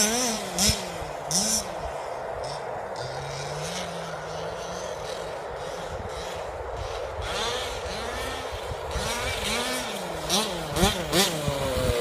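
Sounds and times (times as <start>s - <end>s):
distant rc car engine revving: 0.0s - 12.0s.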